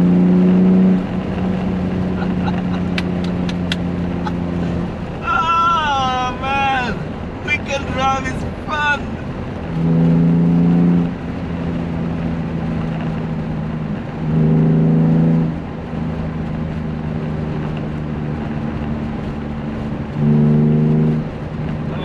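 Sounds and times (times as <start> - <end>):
car engine and exhaust cruising: 0.0 - 22.0.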